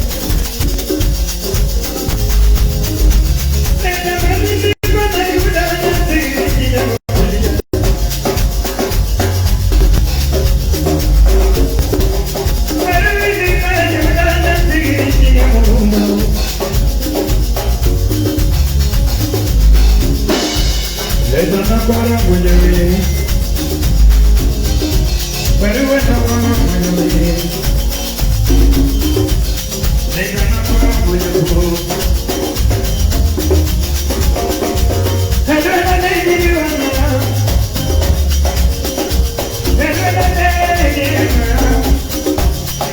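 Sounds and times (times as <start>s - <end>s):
drums: 0.0s - 42.9s
live band playing: 0.0s - 42.9s
shaker percussion: 0.0s - 42.9s
strong bass: 2.0s - 42.7s.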